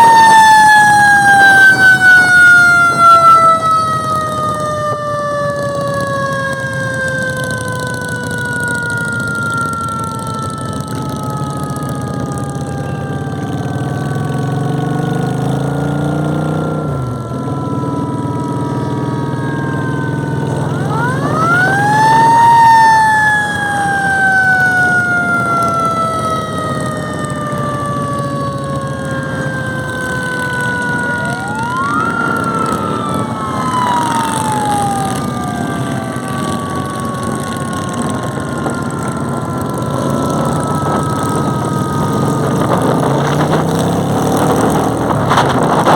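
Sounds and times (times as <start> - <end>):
engine revving: 0.0 - 45.9
rumble of engines: 0.0 - 45.9
siren winding up: 0.0 - 45.9.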